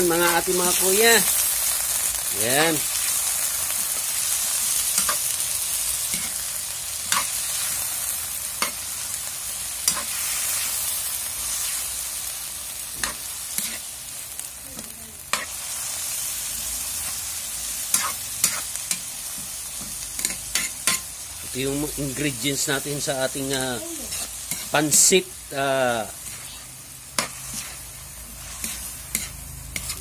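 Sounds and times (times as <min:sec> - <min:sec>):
food sizzling in a wok: 0:00.0 - 0:30.0.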